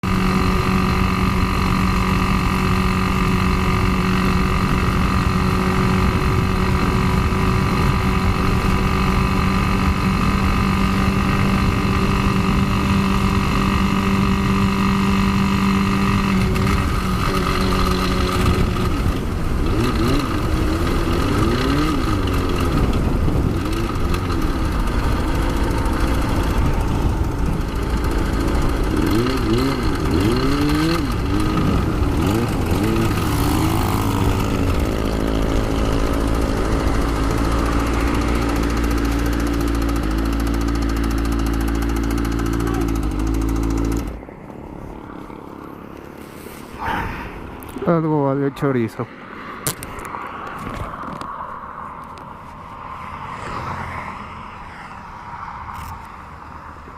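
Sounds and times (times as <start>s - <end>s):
motorcycle engine idling and revving: 0.0s - 56.9s.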